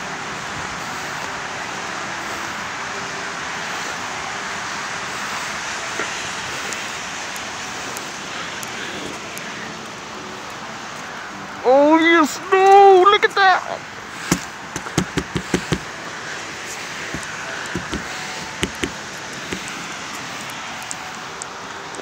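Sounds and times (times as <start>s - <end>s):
highway traffic roar: 0.0s - 22.0s.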